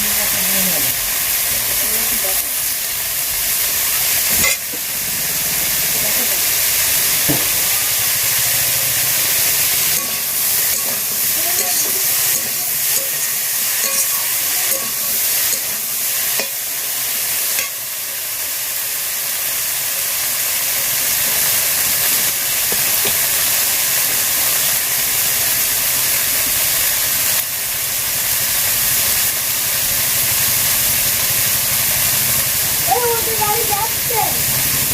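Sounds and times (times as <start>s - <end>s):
food sizzling in a pan: 0.0s - 34.9s.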